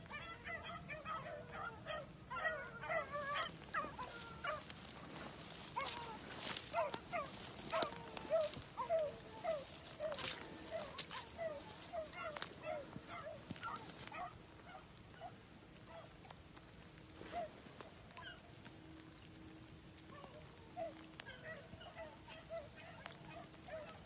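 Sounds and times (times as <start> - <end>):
dogs yelping: 0.0 - 16.2, 17.0 - 18.8, 19.9 - 24.0
dry grass rustling: 0.0 - 24.0.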